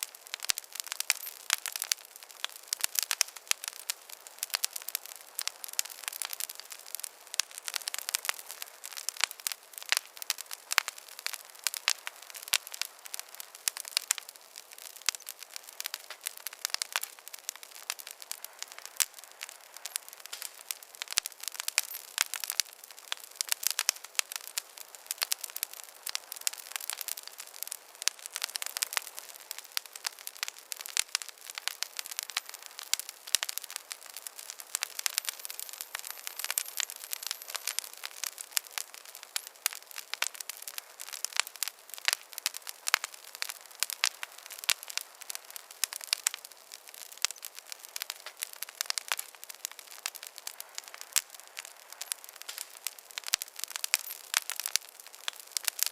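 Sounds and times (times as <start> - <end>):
campfire crackling: 0.0 - 55.9
soft hiss of burning wood: 0.0 - 55.9.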